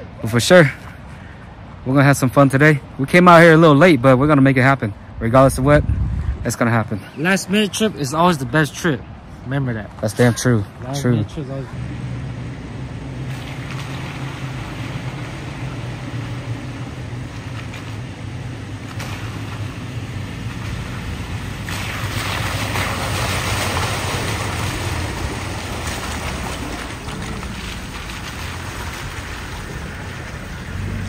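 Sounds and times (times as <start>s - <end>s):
engine low rumble: 0.0s - 31.0s.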